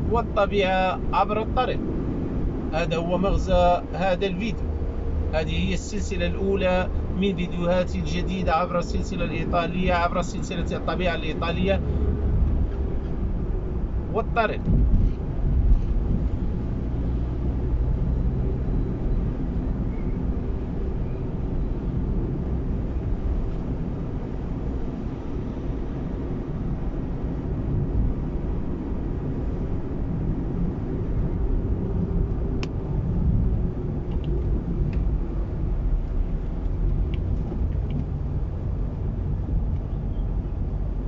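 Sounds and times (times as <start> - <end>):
car engine rumble: 0.0 - 41.0
road noise: 0.0 - 41.0.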